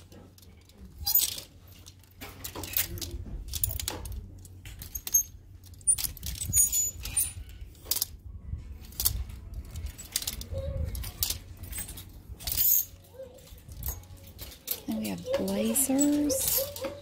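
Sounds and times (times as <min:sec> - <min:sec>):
low store hum: 0:00.0 - 0:17.0
plastic hangers clicking on rack: 0:00.0 - 0:17.0.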